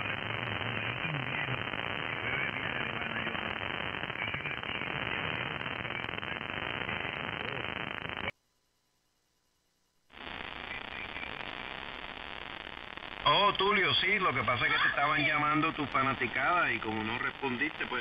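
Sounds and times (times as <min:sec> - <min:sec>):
weak radio voice: 0:00.0 - 0:08.3, 0:10.2 - 0:11.8, 0:13.2 - 0:18.0
radio static hiss: 0:00.0 - 0:18.0.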